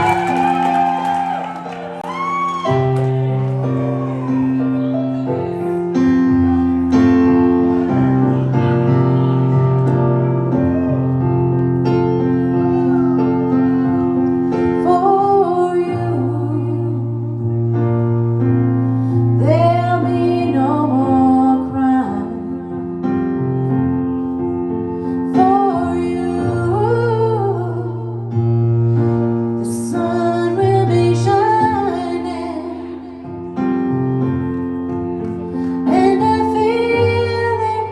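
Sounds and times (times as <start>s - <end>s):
piano chords: 0.0s - 37.9s.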